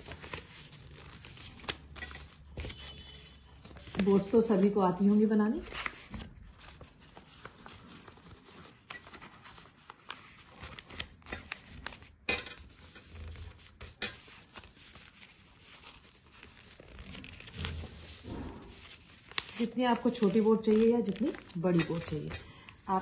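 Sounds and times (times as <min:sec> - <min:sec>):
paper rustling and crinkling: 0:00.0 - 0:23.0.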